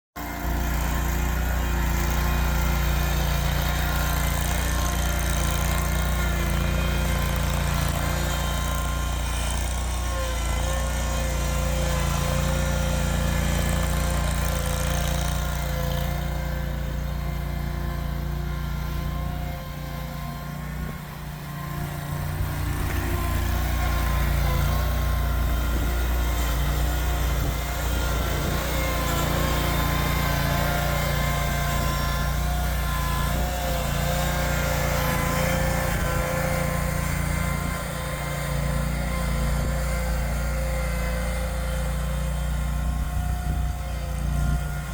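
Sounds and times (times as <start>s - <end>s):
tractor engine running under load: 0.2s - 44.9s.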